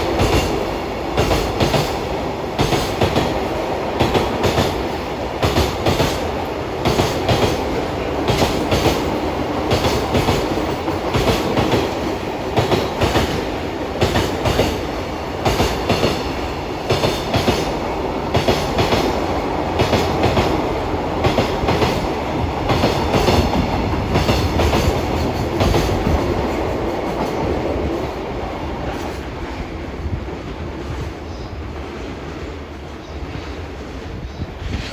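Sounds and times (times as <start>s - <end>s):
train wheels clacking over joints: 0.0s - 28.1s
rumble of wheels on rail: 0.0s - 34.9s.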